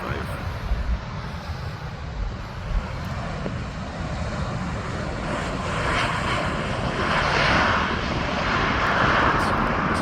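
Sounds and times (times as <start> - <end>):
jet engines rushing hiss: 0.0 - 10.0.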